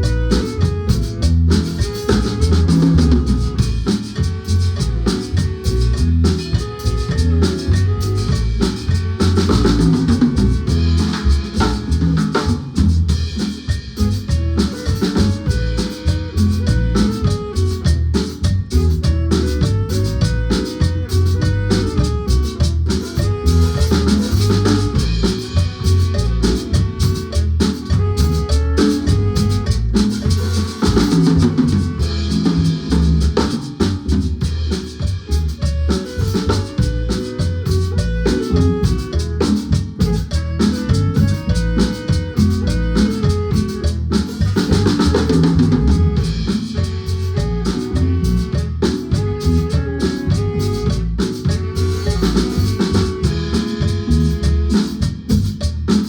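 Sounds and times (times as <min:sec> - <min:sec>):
drum kit beat: 0:00.0 - 0:56.0
marimba notes: 0:00.0 - 0:56.0.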